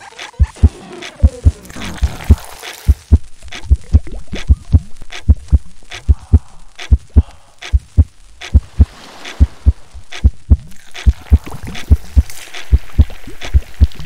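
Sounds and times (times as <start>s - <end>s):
heartbeat double thuds: 0.3s - 14.0s.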